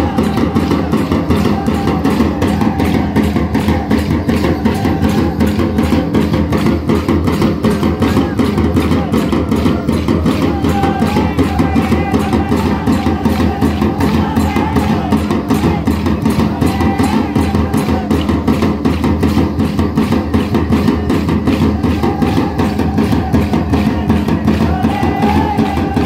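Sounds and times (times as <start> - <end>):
fast drum beat: 0.0 - 26.0.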